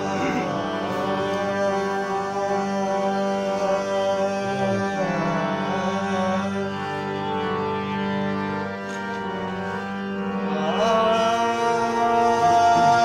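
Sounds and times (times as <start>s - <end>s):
slow sliding melody: 0.0s - 7.6s, 8.8s - 13.0s
harmonium sustained notes: 0.0s - 13.0s.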